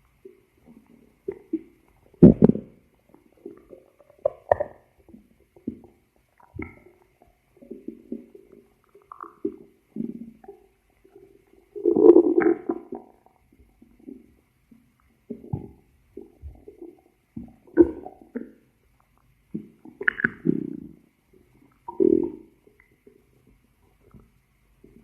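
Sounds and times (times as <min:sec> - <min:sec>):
stomach growling: 0:00.3 - 0:23.2.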